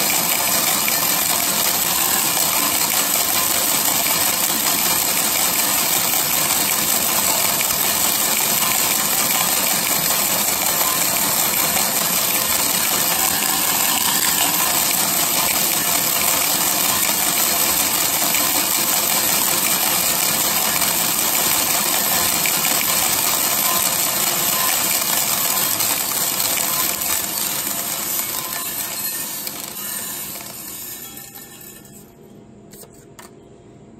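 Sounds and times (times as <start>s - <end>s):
coffee beans rattling in roaster drum: 0.0s - 32.0s.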